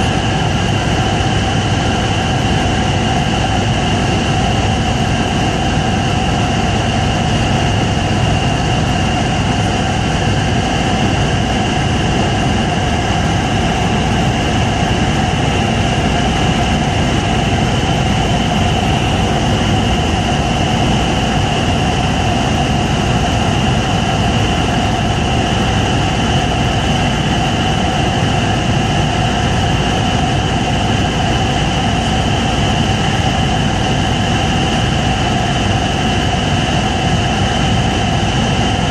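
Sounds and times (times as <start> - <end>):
helicopter engine and rotor drone: 0.0 - 38.9
high whine: 0.0 - 38.9.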